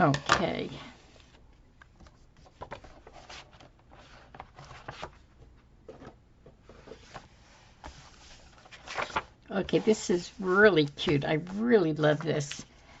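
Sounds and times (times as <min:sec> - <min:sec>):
paper rustling: 0:02.0 - 0:13.0.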